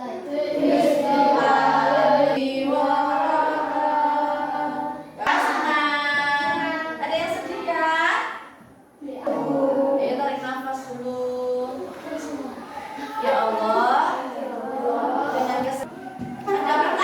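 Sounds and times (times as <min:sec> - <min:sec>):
children singing together: 0:00.0 - 0:07.0, 0:09.0 - 0:17.0.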